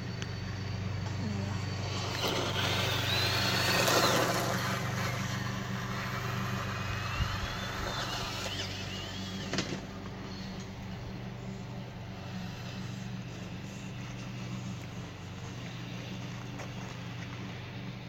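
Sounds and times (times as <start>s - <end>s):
rc truck motor whining: 0.0s - 18.0s
steady low hum: 0.0s - 18.0s.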